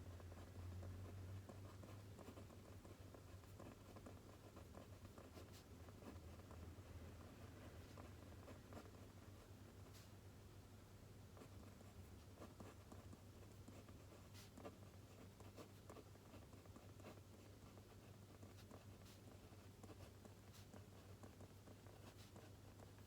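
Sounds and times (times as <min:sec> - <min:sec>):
pen scratching on paper: 0:00.1 - 0:10.2, 0:11.4 - 0:23.0.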